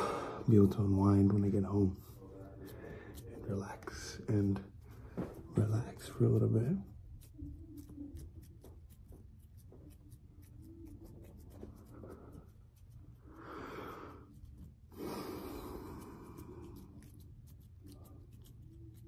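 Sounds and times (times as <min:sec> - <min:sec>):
hands rubbing together: 0:02.0 - 0:19.0.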